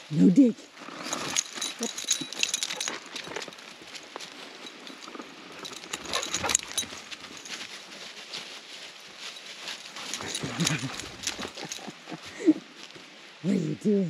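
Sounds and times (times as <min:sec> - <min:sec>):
collar tags and leash clip clinking: 0:00.8 - 0:13.0
footsteps rustling dry leaves: 0:00.8 - 0:13.4.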